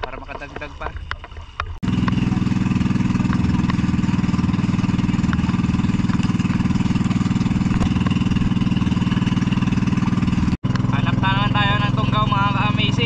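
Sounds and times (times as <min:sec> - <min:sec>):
boat engine running steadily: 0:00.0 - 0:13.0.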